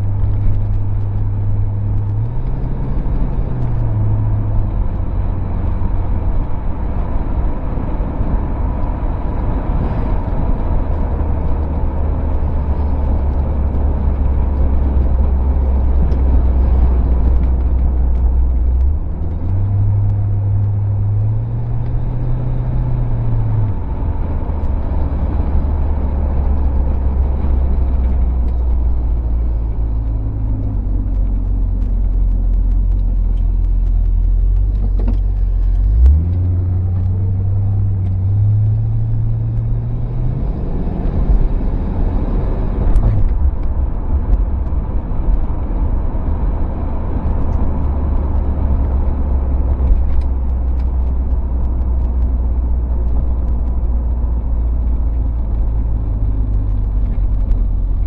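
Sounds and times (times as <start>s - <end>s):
car engine revving while driving: 0.0s - 58.0s
road and wind noise: 0.0s - 58.0s.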